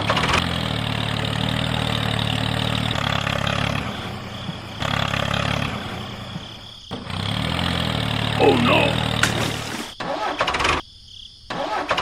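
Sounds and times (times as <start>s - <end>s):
small engine humming: 0.0s - 9.9s.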